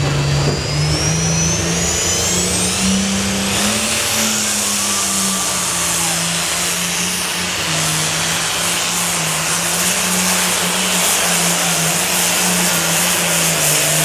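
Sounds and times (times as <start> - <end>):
high turbo whine: 0.0 - 14.0
tractor engine running hard: 0.0 - 14.0.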